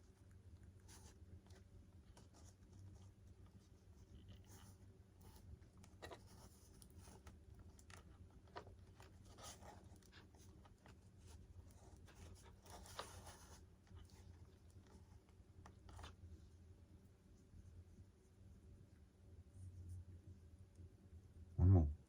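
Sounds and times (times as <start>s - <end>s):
small clicks and rustles: 0.0s - 18.0s
low steady hum: 0.0s - 22.0s.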